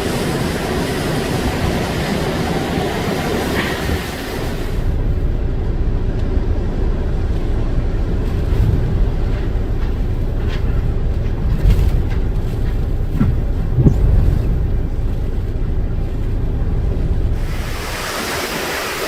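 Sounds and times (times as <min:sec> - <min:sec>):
wind buffeting a car: 0:00.0 - 0:18.9
car road rumble: 0:00.0 - 0:19.0.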